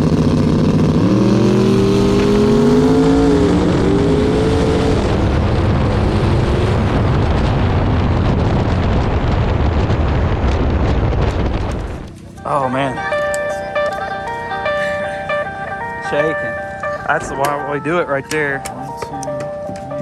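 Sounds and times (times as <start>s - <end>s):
drag racing engines accelerating: 0.0s - 10.5s, 11.1s - 20.0s.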